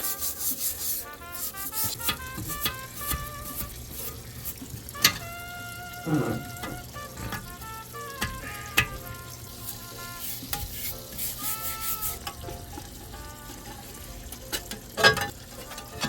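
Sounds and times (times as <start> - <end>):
parts washer liquid splashing: 0.0 - 16.0.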